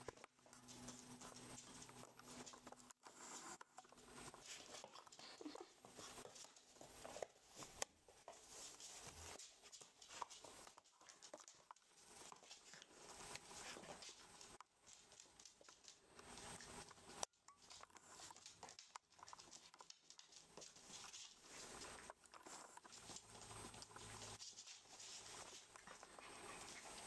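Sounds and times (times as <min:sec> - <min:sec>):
puppies scuffling on wooden floor: 0:00.0 - 0:27.0.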